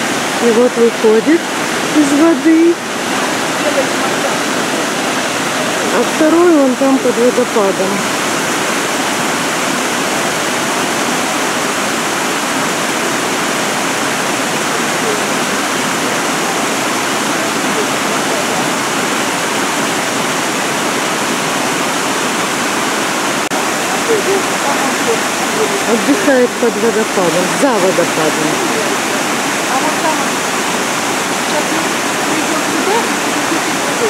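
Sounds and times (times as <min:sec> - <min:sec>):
waterfall rushing into pool: 0:00.0 - 0:34.0.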